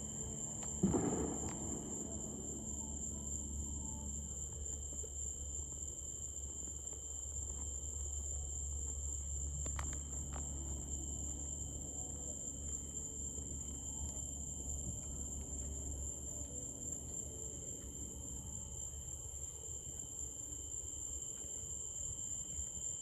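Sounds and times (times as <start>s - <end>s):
low steady rumble: 0.0s - 19.9s
crickets trilling: 0.0s - 23.0s.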